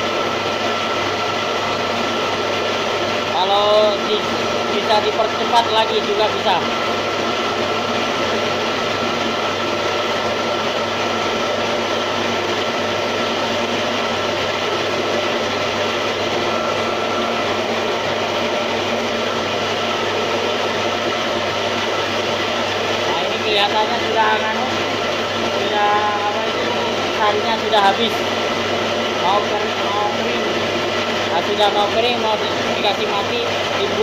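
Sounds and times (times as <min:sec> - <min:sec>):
motor humming with high whine: 0:00.0 - 0:34.0.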